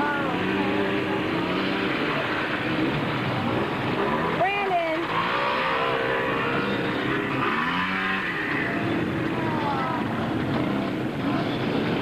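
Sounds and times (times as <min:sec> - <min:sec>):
quad engines revving: 0:00.0 - 0:12.0.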